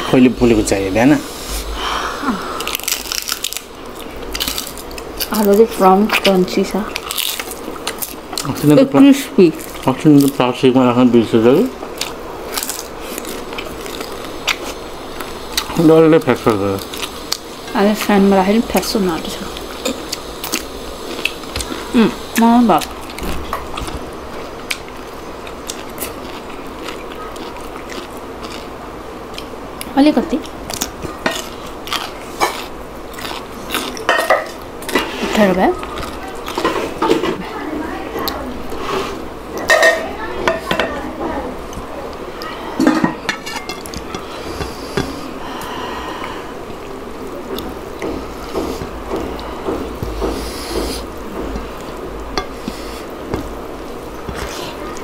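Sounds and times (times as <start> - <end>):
steady background hiss: 0.0 - 55.0
people chewing food: 1.4 - 55.0.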